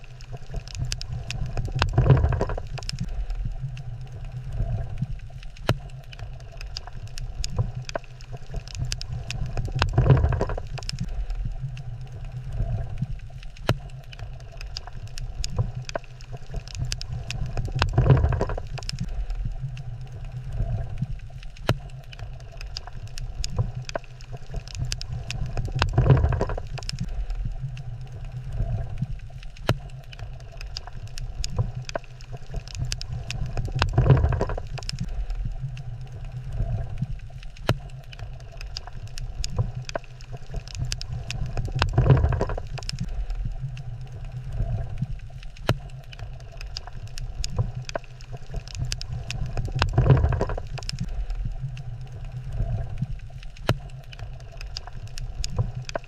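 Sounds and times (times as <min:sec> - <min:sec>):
low underwater rumble: 0:00.0 - 0:56.0
reef clicks and crackles: 0:00.0 - 0:56.0.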